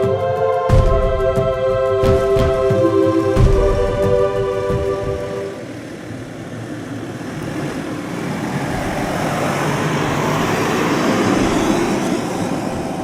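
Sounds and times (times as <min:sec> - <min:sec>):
vehicle noise: 0:00.7 - 0:13.0.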